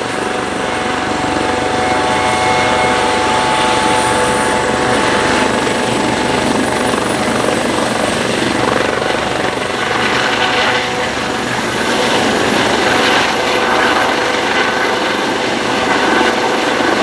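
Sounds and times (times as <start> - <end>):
continuous turbine whine: 0.0 - 17.0
helicopter engines and rotors: 0.0 - 17.0.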